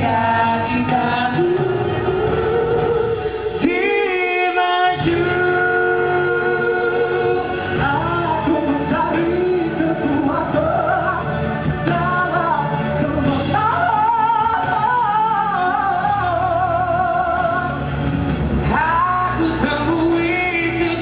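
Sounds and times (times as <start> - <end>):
men singing karaoke: 0.0 - 17.9, 18.7 - 21.0
recorded backing track: 0.0 - 21.0.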